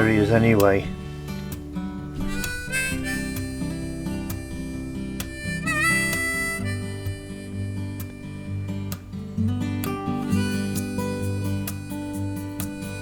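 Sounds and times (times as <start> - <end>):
acoustic guitar: 0.0 - 13.0
bluesy harmonica: 0.0 - 13.0.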